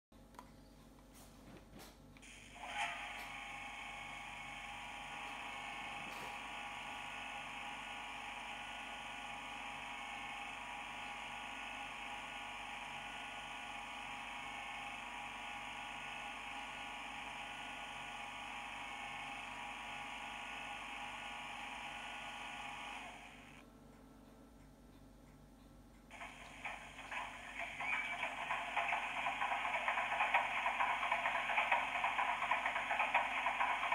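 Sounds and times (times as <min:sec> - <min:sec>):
tinny diesel engine hum: 0:02.6 - 0:23.6, 0:26.1 - 0:33.9.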